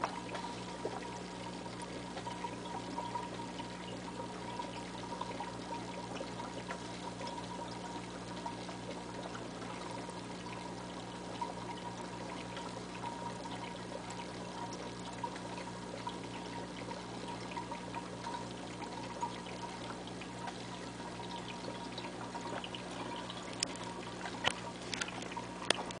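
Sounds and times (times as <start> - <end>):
aquarium water trickling: 0.0 - 26.0.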